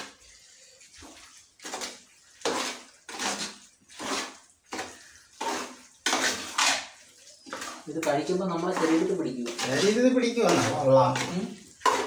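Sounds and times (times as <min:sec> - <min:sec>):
spoon stirring thick curry: 0:00.2 - 0:12.0.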